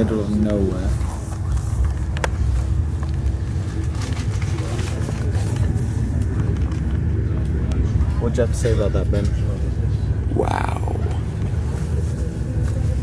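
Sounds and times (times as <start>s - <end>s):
train rumbling from inside carriage: 0.0s - 13.0s.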